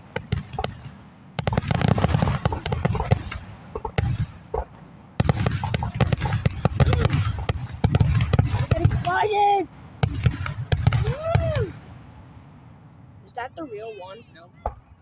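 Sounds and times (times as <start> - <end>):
fireworks bangs and crackles: 0.0 - 12.1.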